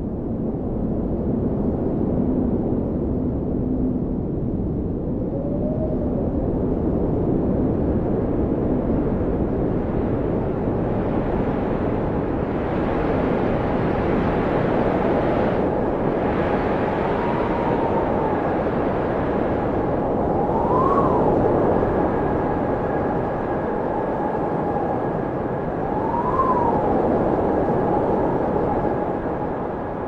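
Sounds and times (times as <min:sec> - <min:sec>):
wind howling: 0:00.9 - 0:30.0.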